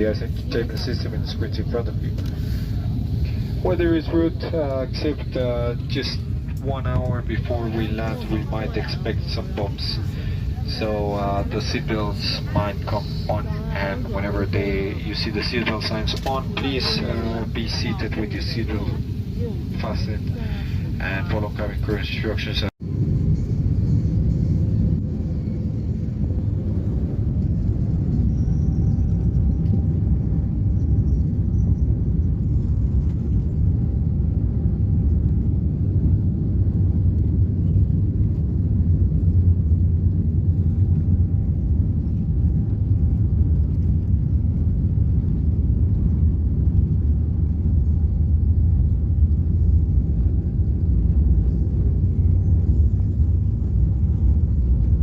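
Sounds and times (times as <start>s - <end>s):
airliner cabin engine rumble: 0.0s - 55.0s
faint rising whine: 0.0s - 55.0s.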